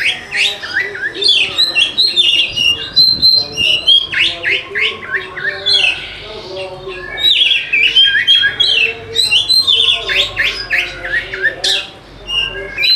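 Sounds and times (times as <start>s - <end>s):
magpie-robin singing whistled notes: 0.0s - 12.9s.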